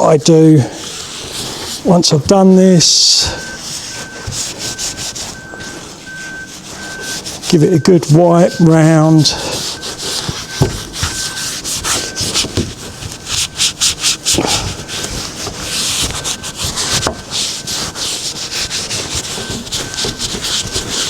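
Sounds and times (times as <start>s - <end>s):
wipe rubbing painted metal: 0.0s - 21.0s.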